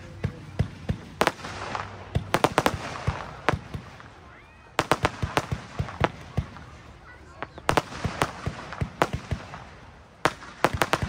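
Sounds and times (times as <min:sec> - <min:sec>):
firework hiss: 0:00.0 - 0:11.0
firework shots: 0:00.0 - 0:11.0.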